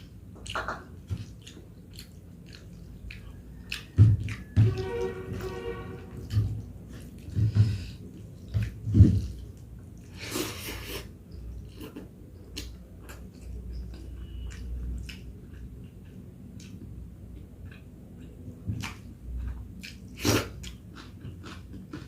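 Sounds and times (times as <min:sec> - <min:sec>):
chewing: 0:00.0 - 0:04.6, 0:06.2 - 0:22.0.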